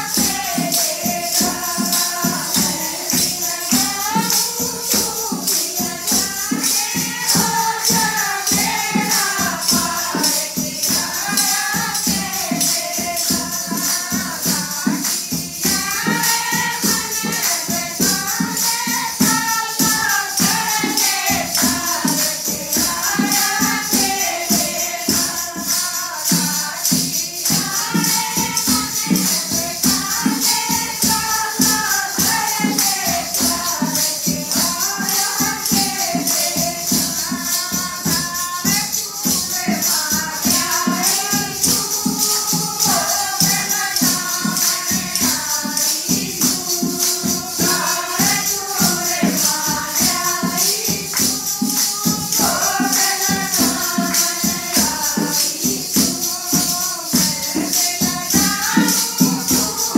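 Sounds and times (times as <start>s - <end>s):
hand percussion beat: 0.0s - 59.9s
women singing in unison: 0.0s - 59.9s.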